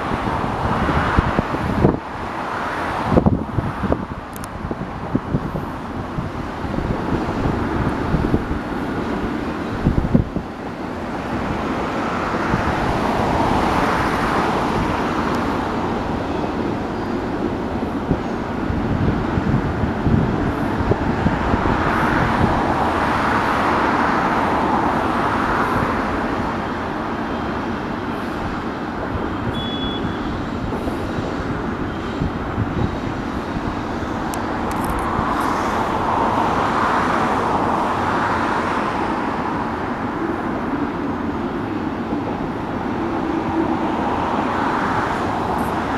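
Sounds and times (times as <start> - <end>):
cars passing by: 0.0 - 45.9
distant freight train rumble: 0.0 - 45.9.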